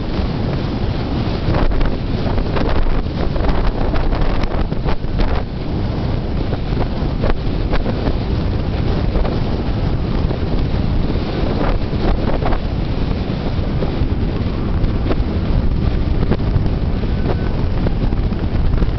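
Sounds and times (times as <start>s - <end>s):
car road noise: 0.0s - 18.9s
wind buffeting microphone: 0.0s - 18.9s.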